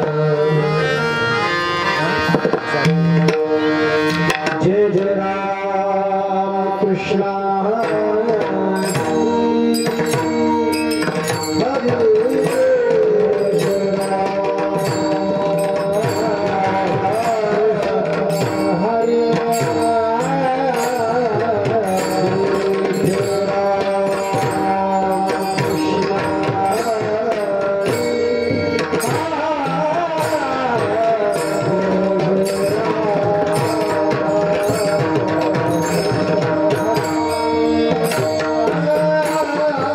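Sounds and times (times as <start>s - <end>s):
person singing: 0.0s - 39.9s
hand drum beat: 7.8s - 39.9s.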